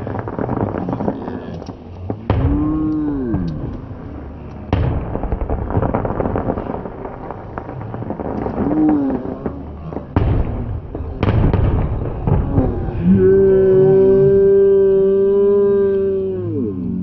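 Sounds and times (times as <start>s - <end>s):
firework bangs: 0.0s - 14.2s
fireworks crackling: 0.0s - 16.2s.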